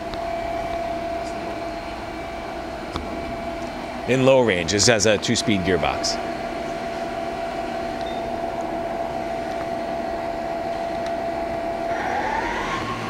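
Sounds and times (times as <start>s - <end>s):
lathe spindle humming with whine: 0.0s - 13.0s.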